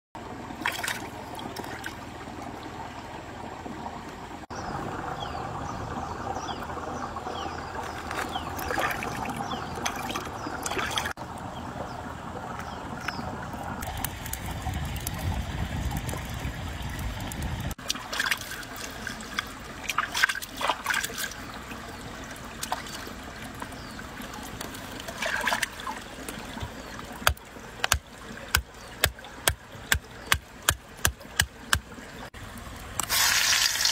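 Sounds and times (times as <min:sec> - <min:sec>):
stream trickling over stones: 0:00.2 - 0:33.9.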